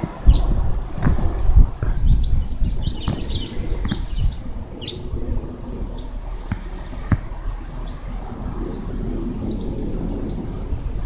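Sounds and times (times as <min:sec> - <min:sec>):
small birds chirping: 0:00.0 - 0:11.0
wind buffeting microphone: 0:00.0 - 0:11.0.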